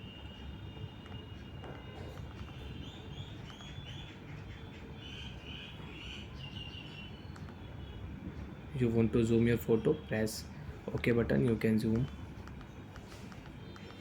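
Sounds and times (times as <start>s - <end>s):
birds chirping: 1.7s - 12.9s.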